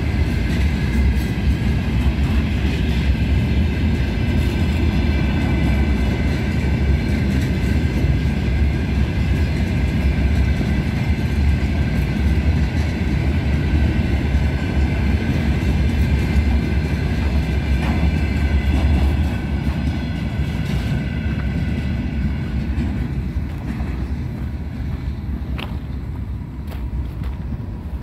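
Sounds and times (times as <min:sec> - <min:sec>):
freight wagons rumbling past: 0:00.0 - 0:28.0.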